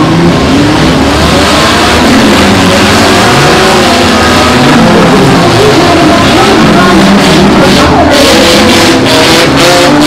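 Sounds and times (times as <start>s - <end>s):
car engines revving: 0.0s - 10.0s
steady rush of noise: 0.0s - 10.0s.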